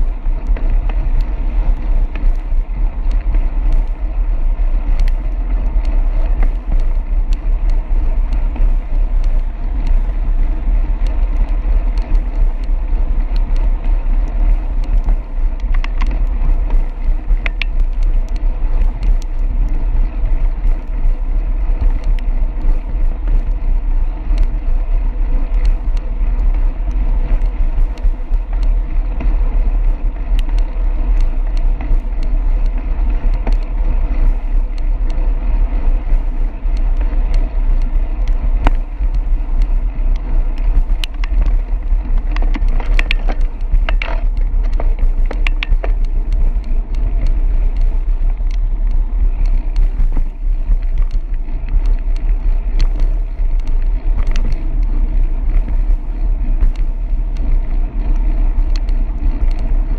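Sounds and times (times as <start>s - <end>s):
bike clicks and rattles: 0.0s - 59.9s
wind and road noise: 0.0s - 59.9s.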